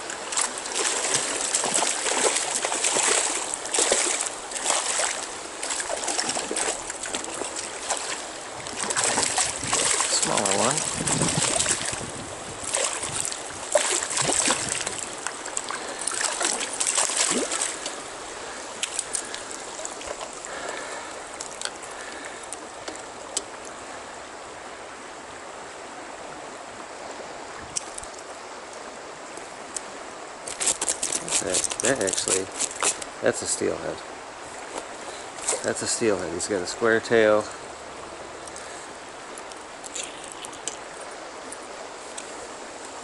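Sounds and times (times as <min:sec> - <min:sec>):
stream water flowing: 0:00.0 - 0:43.0.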